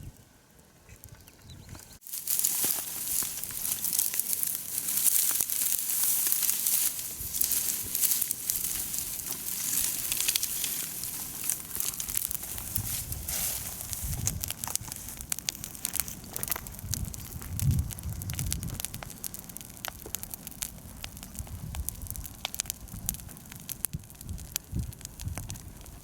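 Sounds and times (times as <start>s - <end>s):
bonfire crackling and popping: 2.0s - 26.0s.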